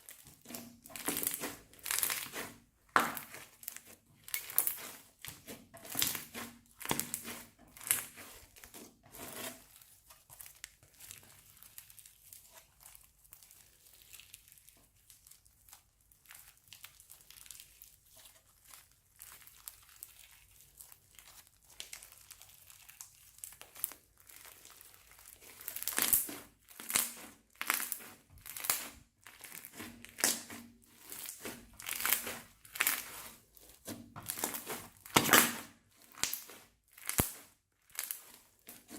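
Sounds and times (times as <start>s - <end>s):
crinkly piping bags squeezed: 0.0s - 38.9s.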